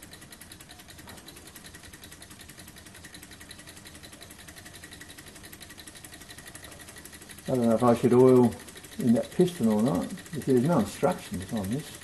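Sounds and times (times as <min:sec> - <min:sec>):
model engine fast mechanical ticking: 0:00.0 - 0:12.0.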